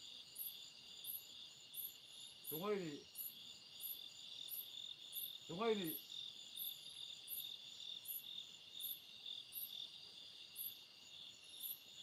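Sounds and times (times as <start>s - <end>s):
crickets trilling: 0.0s - 12.0s
high insect chirp: 0.0s - 12.0s.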